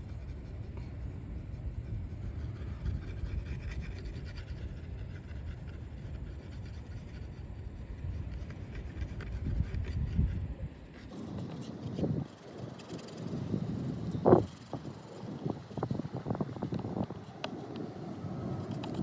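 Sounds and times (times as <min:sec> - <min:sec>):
paintbrush scrubbing paint: 0:00.0 - 0:19.0.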